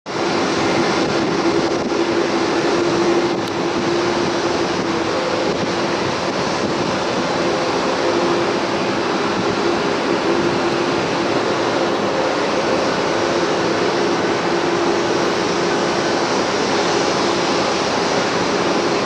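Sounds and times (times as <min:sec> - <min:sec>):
jet engines roaring: 0:00.1 - 0:19.0.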